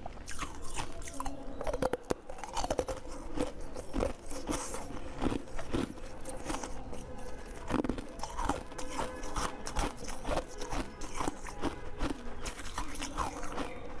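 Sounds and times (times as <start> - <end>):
chewing jelly: 0.0 - 14.0.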